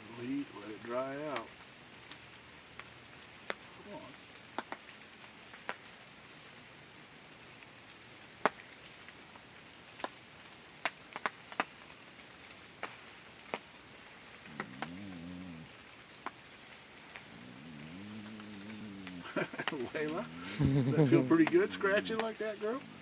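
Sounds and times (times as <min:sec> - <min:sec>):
heavy raindrops striking: 0:00.0 - 0:23.0
rain hiss: 0:00.0 - 0:23.0.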